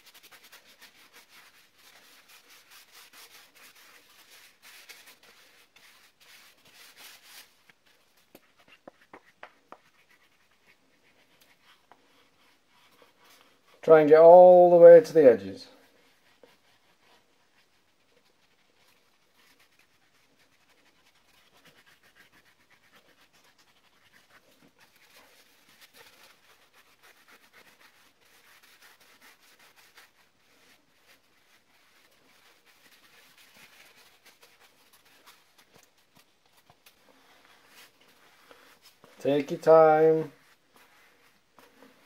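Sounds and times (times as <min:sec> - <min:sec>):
faint paper towel rubbing: 0:00.0 - 0:42.0.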